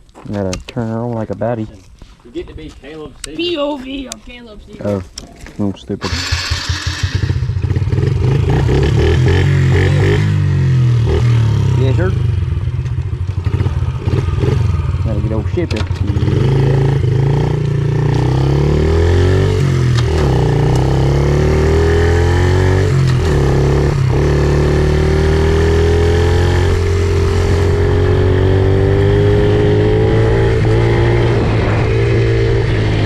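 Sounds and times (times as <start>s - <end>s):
pit bike engine running: 6.0s - 33.0s.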